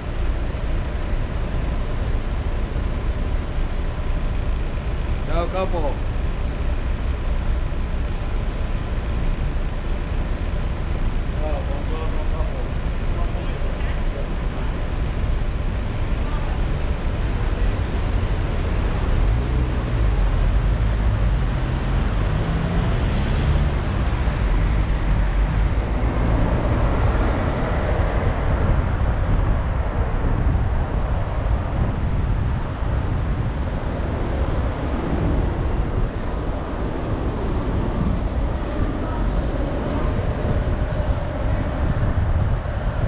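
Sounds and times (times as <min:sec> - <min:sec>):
car engine and tyre rumble: 0:00.0 - 0:43.0.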